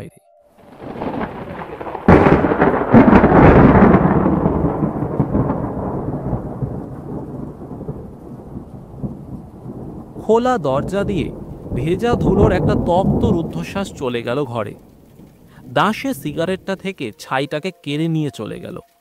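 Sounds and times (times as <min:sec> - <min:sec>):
thunderclap rumbling: 0:00.6 - 0:17.2
heavy rain: 0:00.6 - 0:19.0.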